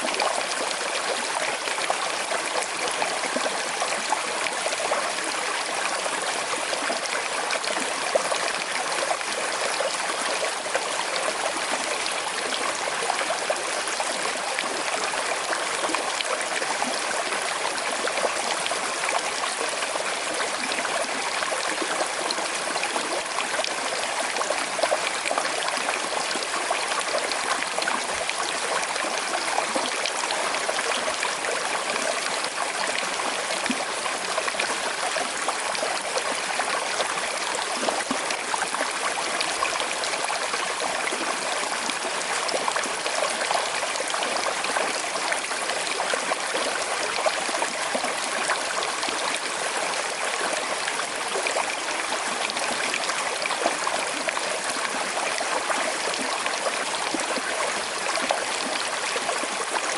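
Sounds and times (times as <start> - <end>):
river babbling over stones: 0.0 - 59.9.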